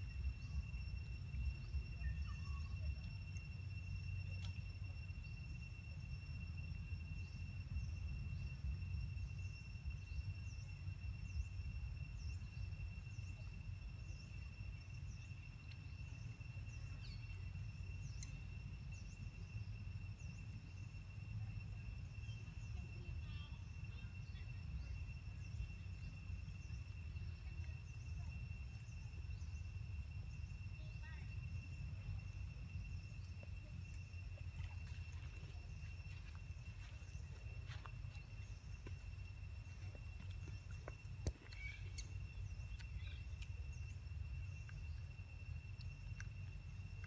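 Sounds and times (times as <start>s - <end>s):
insects trilling: 0.0s - 47.0s
steady low rumble: 0.0s - 47.0s.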